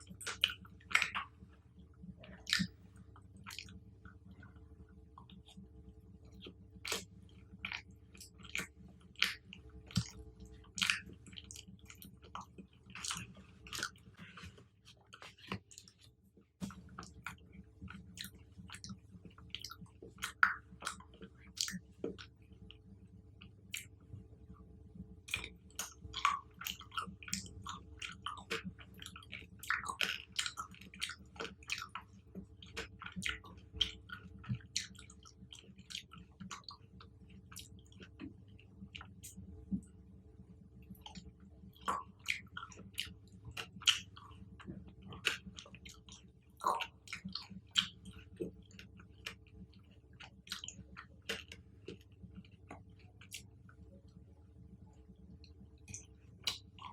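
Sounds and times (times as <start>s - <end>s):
chewing fruit: 0.0s - 24.1s, 25.2s - 39.9s, 40.8s - 54.2s, 55.4s - 56.9s.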